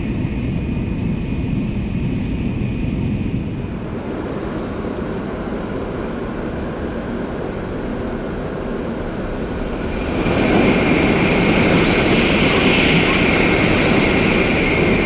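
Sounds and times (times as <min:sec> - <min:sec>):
train running at speed: 0:00.0 - 0:15.0.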